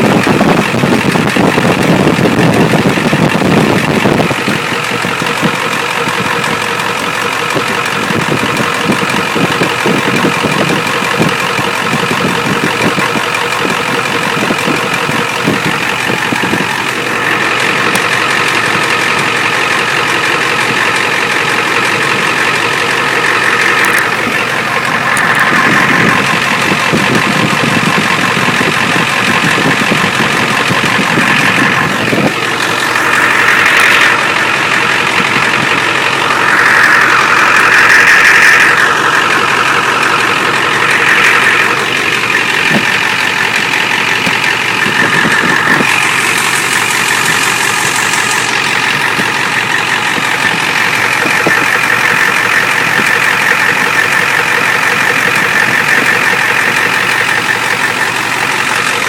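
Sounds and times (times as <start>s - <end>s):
diesel engine idling with knocking: 0.0s - 59.0s.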